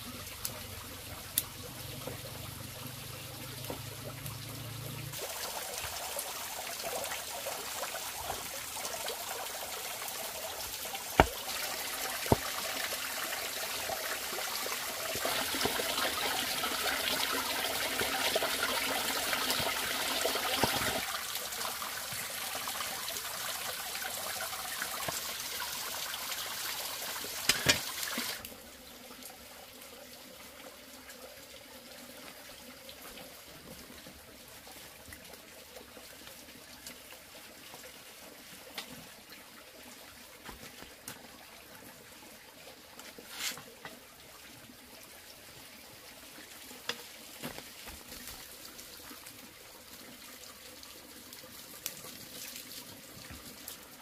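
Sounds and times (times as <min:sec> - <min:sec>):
water running and trickling: 0:00.0 - 0:54.0.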